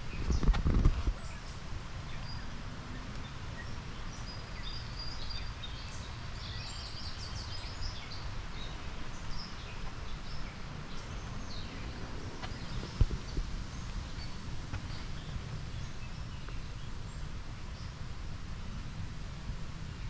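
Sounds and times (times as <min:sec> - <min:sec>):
small birds chirping: 0:00.0 - 0:18.8
low outdoor rumble: 0:00.0 - 0:20.0.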